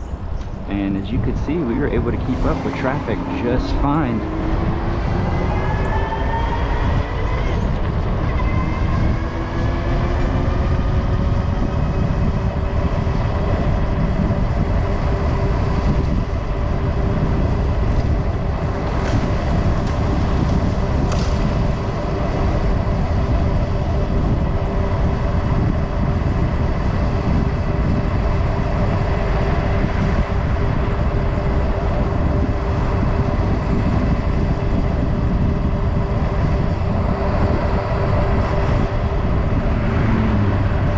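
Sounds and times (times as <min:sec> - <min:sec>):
wind on microphone: 0:00.0 - 0:40.9
electric bike motor whine: 0:03.9 - 0:40.9.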